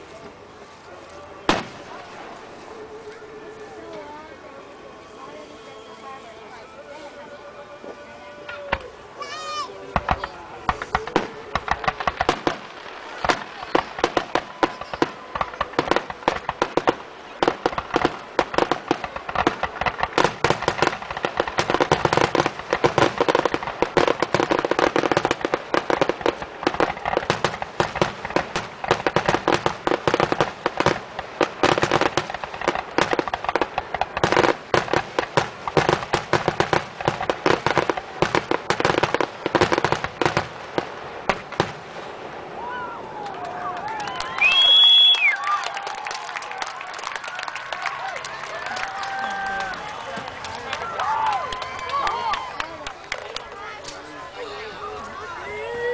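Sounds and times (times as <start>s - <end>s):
fireworks bangs: 1.4s - 3.4s, 7.9s - 54.3s.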